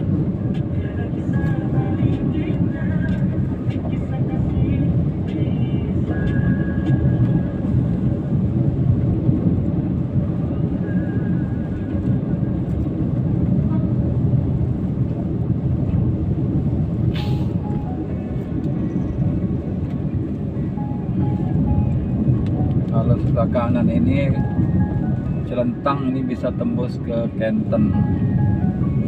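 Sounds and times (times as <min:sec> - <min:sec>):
car cabin road noise: 0:00.0 - 0:29.0.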